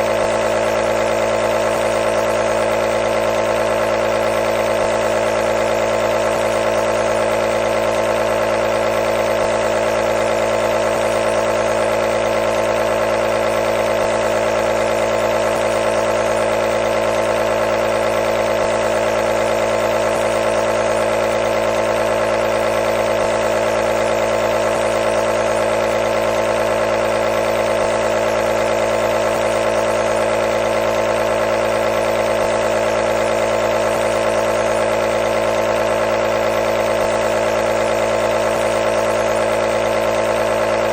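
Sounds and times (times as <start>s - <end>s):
compressor buzzing hum: 0.0s - 40.9s.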